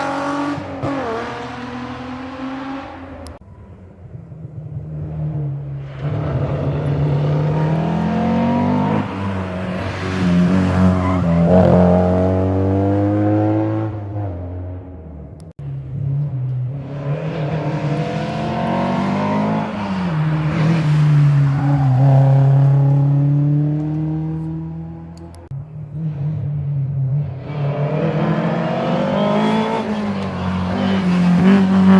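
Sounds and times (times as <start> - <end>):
rally car engines revving: 0.0 - 31.9.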